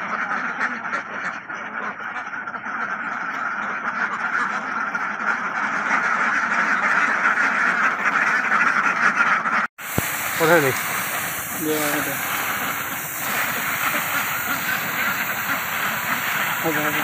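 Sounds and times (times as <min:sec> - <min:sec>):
flock of ducks quacking: 0:00.0 - 0:17.0.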